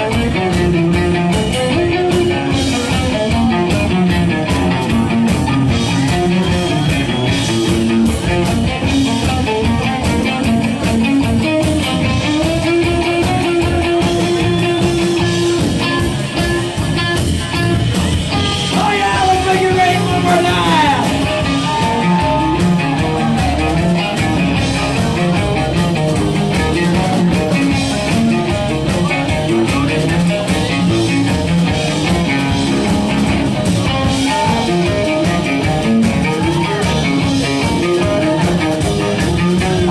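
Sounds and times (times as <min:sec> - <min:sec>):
rock music on picked cello: 0:00.0 - 0:39.9.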